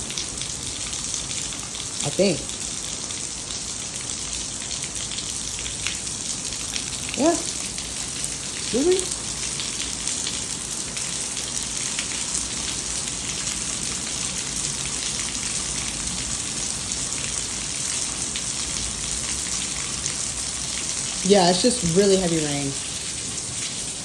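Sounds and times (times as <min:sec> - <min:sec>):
heavy rain falling: 0:00.0 - 0:24.0
ticks of raindrops: 0:00.0 - 0:24.0.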